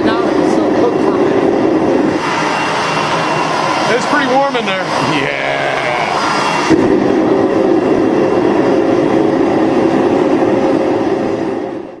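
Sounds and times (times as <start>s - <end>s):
furnace burning with rushing noise: 0.0s - 12.0s.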